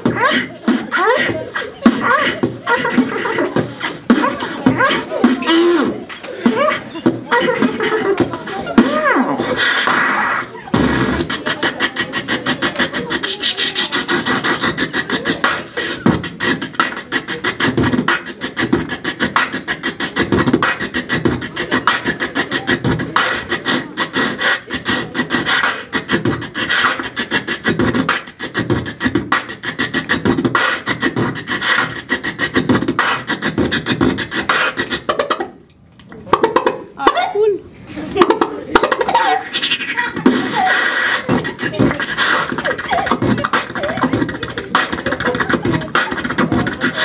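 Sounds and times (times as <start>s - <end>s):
person beatboxing: 0.0s - 47.0s.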